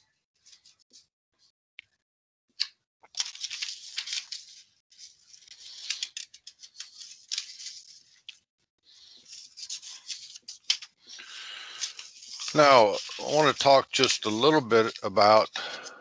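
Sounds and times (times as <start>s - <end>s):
paper rustling and crinkling: 3.0s - 16.0s.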